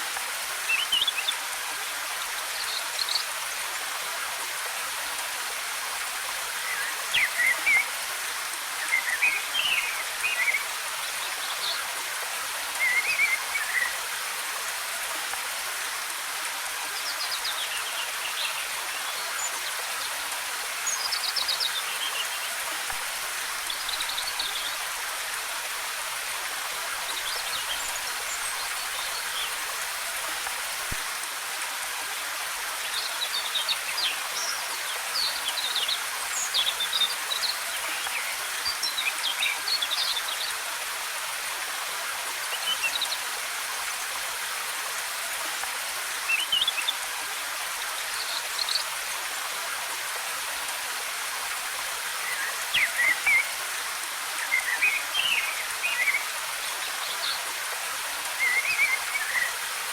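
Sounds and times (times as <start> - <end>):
waterfall rushing: 4.5 - 59.9.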